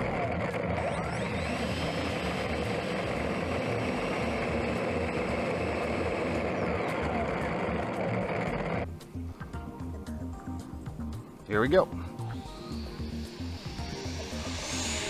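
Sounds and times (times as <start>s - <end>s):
model jet ducted fan whine: 0.0s - 15.0s.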